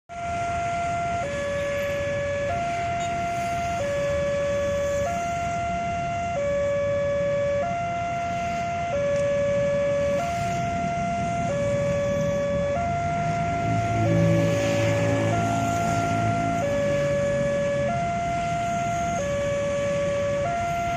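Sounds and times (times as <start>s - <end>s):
constant rumbling noise: 0.1s - 20.9s
two-tone hi-lo siren: 0.1s - 20.9s.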